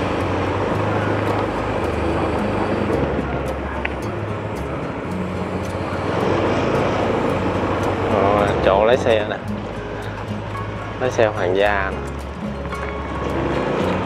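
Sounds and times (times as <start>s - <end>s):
road and wind noise: 0.0s - 14.0s
vehicle engine running: 0.0s - 14.0s.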